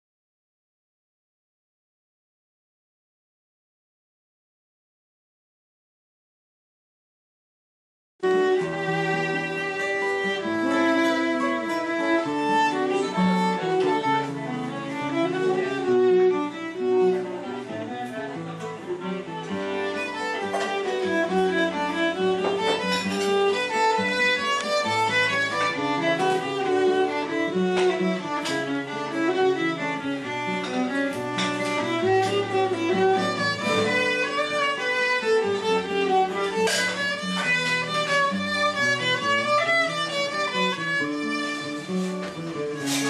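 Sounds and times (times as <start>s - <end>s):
acoustic guitar: 8.2s - 43.0s
violin melody: 8.2s - 43.0s.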